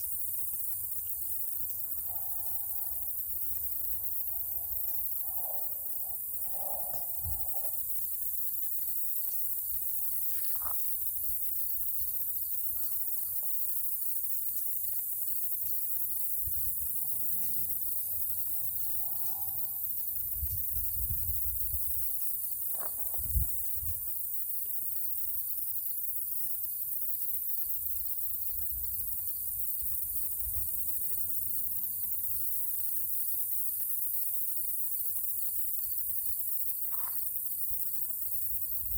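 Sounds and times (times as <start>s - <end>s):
cricket chirping: 0.0s - 38.9s
high-pitched insect chorus: 0.0s - 38.9s.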